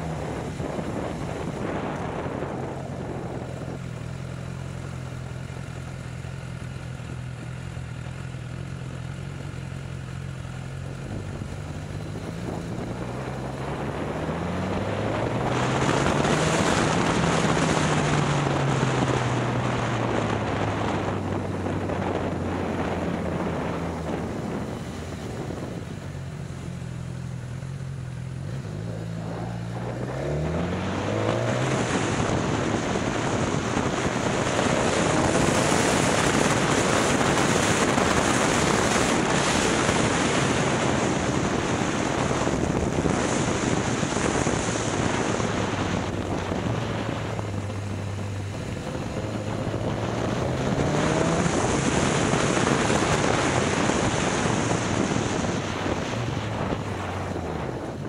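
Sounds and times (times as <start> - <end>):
wind rush on microphone: 0.0 - 6.1, 10.8 - 58.0
motorcycle engine accelerating: 0.0 - 58.0.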